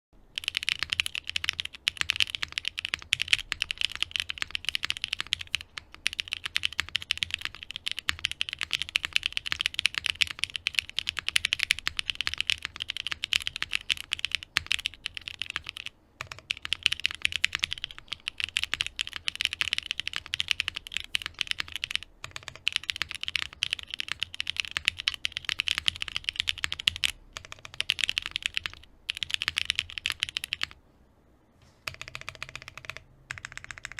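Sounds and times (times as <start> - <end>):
mechanical keyboard typing: 0.3 - 30.8, 31.8 - 33.9.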